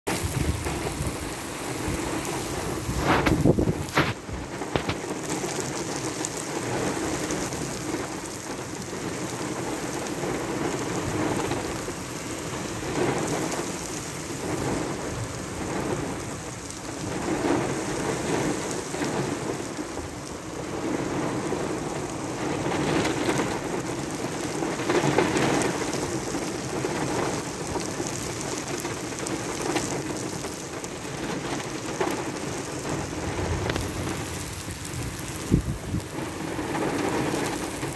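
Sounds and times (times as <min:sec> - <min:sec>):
heavy rain on pavement: 0:00.0 - 0:37.9.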